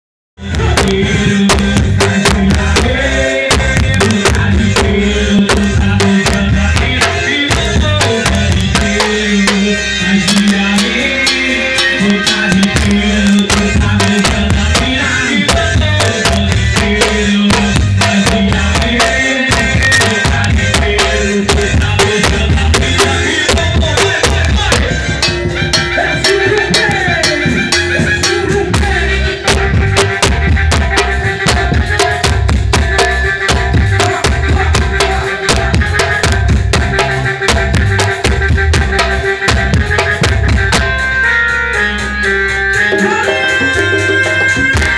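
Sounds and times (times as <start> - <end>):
band playing loud music: 0.4 - 44.9
steady bass line: 0.4 - 44.9
sharp drum hits: 0.6 - 41.1, 43.0 - 44.9.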